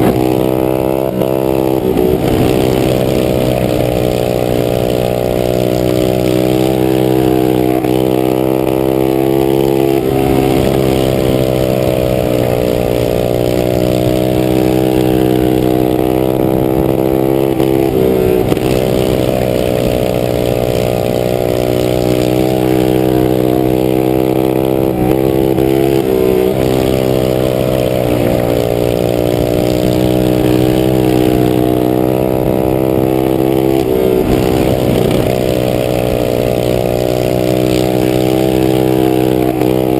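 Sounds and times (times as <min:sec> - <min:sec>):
small engines at full throttle: 0:00.0 - 0:39.9.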